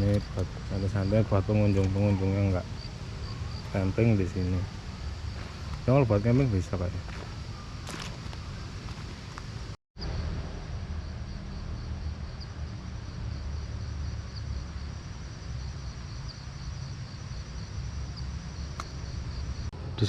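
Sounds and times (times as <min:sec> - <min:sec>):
insects trilling: 0:00.0 - 0:19.7
low steady rumble: 0:00.0 - 0:20.0.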